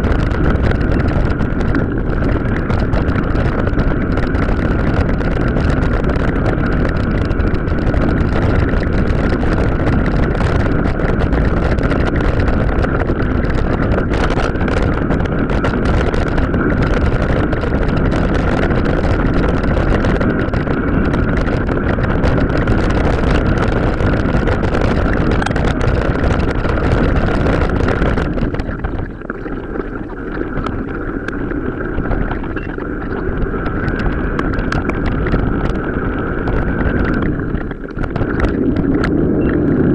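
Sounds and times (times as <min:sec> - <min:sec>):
bike rattling over rough trail: 0:00.0 - 0:39.9
steady high whine: 0:00.0 - 0:39.9
wind buffeting microphone: 0:00.0 - 0:39.9.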